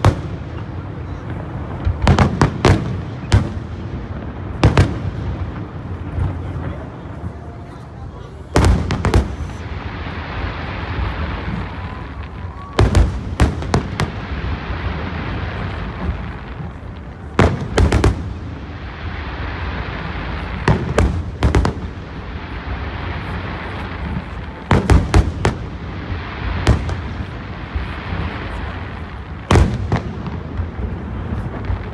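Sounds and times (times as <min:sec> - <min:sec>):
fireworks bursting with sharp bangs: 0:00.0 - 0:31.9.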